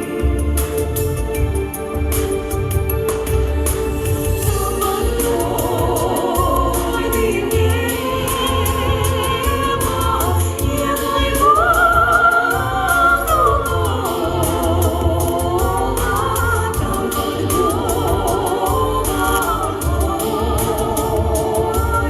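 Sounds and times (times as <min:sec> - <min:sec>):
backing track with low beat: 0:00.0 - 0:22.0
women singing in harmony: 0:04.3 - 0:22.0.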